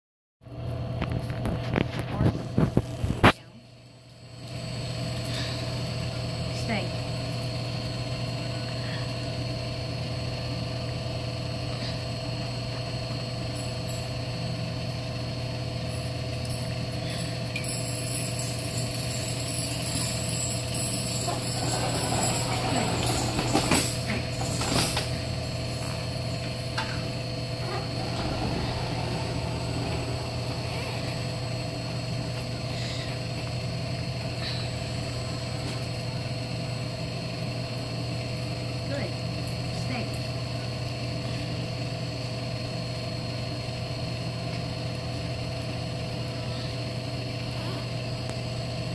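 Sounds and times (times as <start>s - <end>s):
store background hum: 0.4s - 48.9s.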